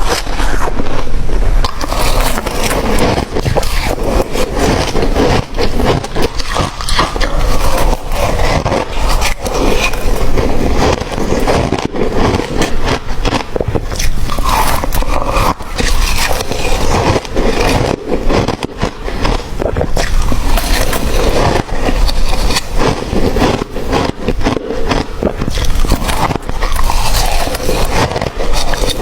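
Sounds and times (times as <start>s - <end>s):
ice being chewed: 1.6s - 29.0s.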